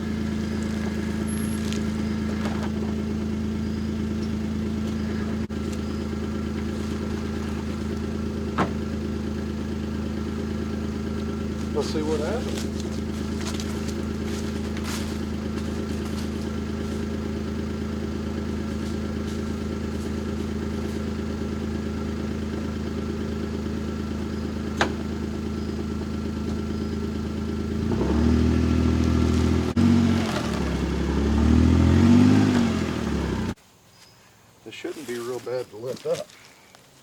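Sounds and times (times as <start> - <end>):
engine revving: 0.0 - 33.6
utility vehicle engine idling: 0.0 - 33.6.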